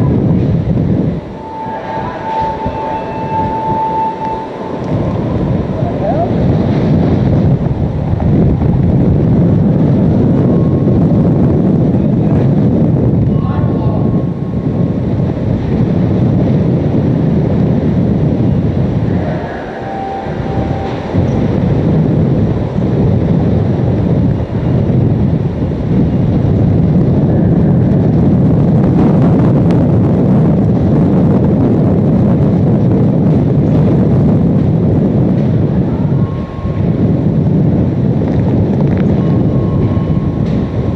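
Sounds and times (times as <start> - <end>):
strong wind buffeting microphone: 0.0 - 40.9.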